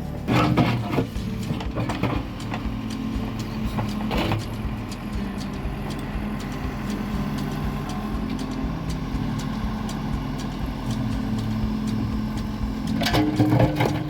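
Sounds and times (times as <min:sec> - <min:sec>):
diesel digging machine engine: 0:00.0 - 0:14.0.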